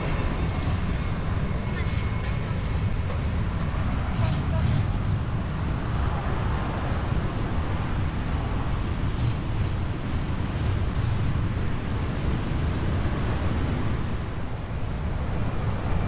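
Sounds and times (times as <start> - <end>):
road traffic: 0.0 - 16.0
wind rumbling on microphone: 0.0 - 16.0.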